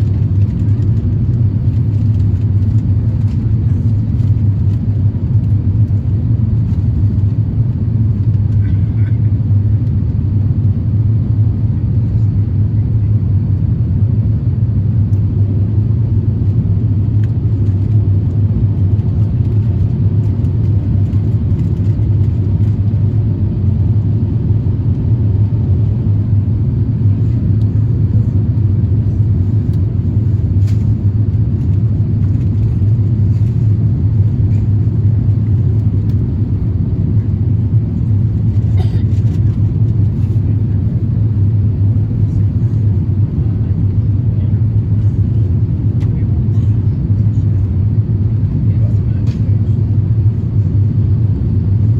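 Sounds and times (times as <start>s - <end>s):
jet engine rumble: 0.0s - 51.9s.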